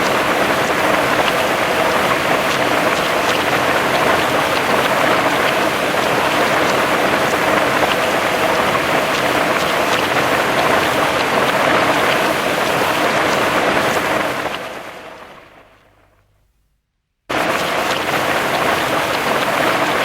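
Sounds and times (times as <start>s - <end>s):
heavy rain falling: 0.0s - 15.5s, 17.3s - 20.0s
raindrops ticking on a surface: 0.0s - 15.8s, 17.3s - 20.0s.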